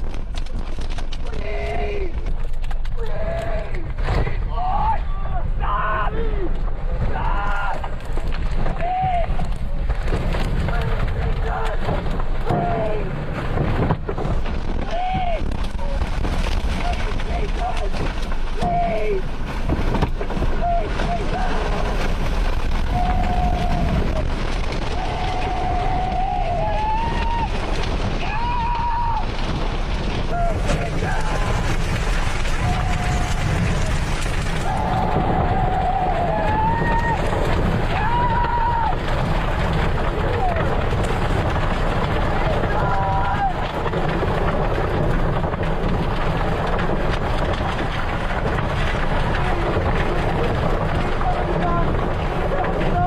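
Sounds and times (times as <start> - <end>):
tornado winds roaring: 0.0 - 53.0.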